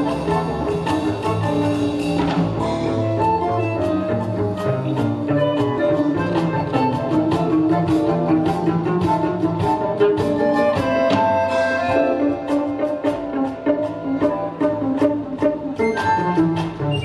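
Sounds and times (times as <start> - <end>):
live jazz band: 0.0 - 17.0.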